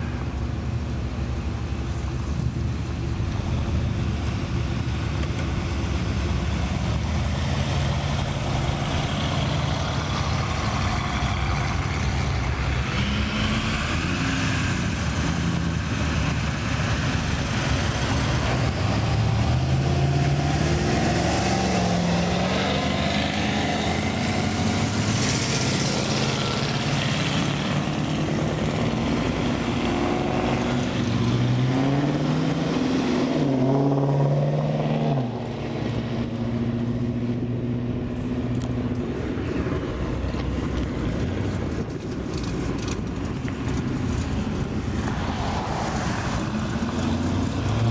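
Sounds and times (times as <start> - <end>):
car engines accelerating: 0.0 - 47.9.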